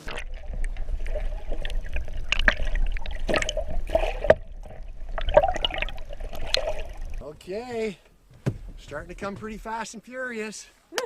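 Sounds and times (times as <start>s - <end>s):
water splashing and sloshing: 0.0s - 9.9s.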